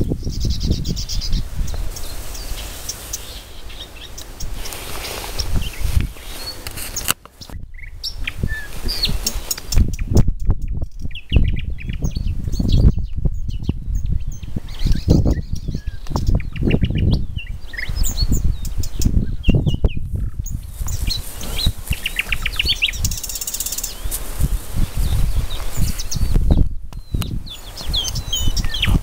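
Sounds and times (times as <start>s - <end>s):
songbird singing: 0.0s - 29.0s
wind buffeting microphone: 0.0s - 29.0s.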